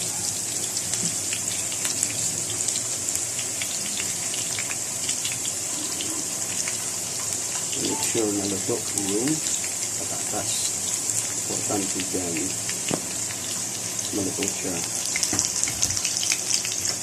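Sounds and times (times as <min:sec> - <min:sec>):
food sizzling in hot oil: 0:00.0 - 0:17.0
oil popping and crackling: 0:00.0 - 0:17.0.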